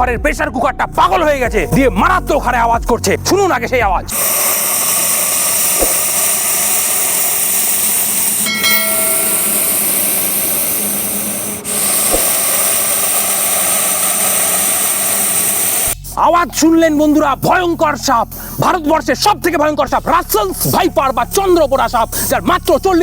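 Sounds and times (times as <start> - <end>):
snake hissing loudly: 4.1 - 23.0.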